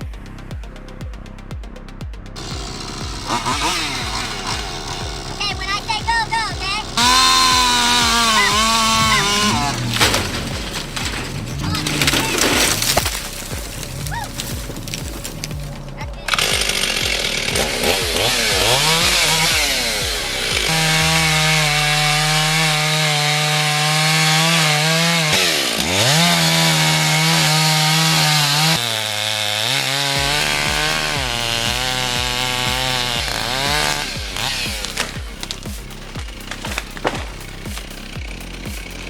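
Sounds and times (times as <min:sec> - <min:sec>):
chainsaw cutting wood: 0:02.4 - 0:39.0.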